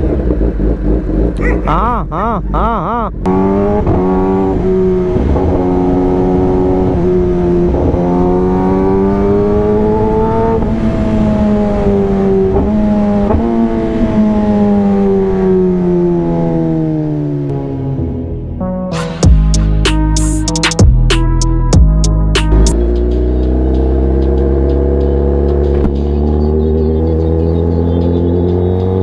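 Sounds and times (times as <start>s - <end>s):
motorcycle engine cruising: 0.0s - 18.4s, 22.5s - 29.0s.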